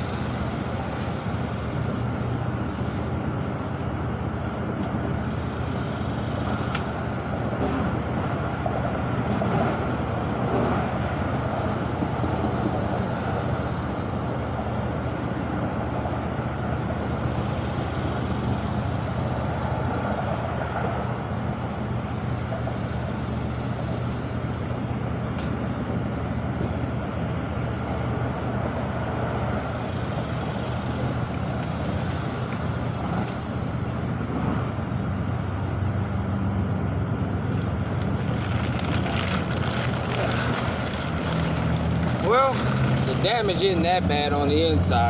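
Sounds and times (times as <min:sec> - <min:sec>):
engine humming: 0:00.0 - 0:45.0
road traffic: 0:00.0 - 0:45.0.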